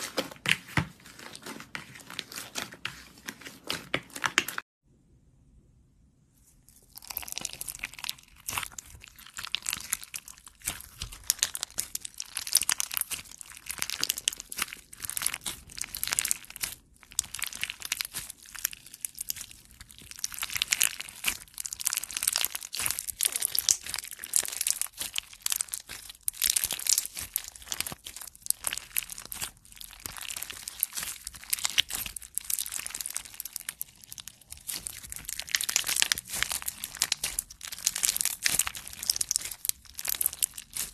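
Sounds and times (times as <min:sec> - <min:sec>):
slime crackling and popping: 0:06.8 - 0:40.9.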